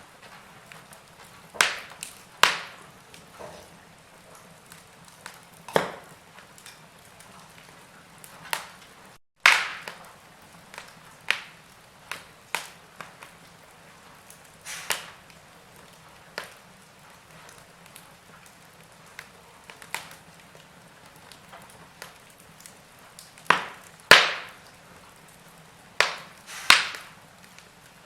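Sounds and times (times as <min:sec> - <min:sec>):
fireplace fire crackling: 0:00.0 - 0:28.0.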